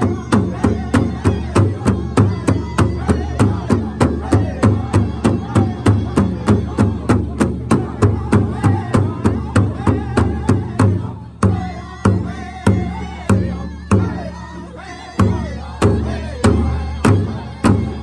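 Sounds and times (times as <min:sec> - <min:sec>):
group singing: 0:00.0 - 0:18.0
large drum beating: 0:00.0 - 0:18.0.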